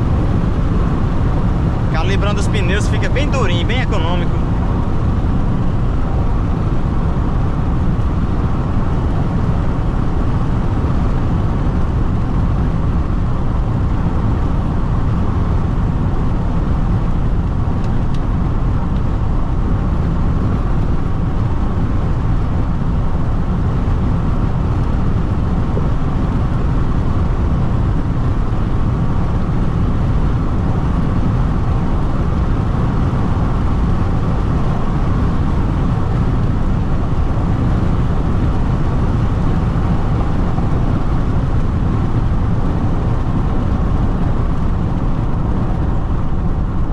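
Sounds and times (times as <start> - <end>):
in-cabin road and wind noise: 0.0 - 46.9.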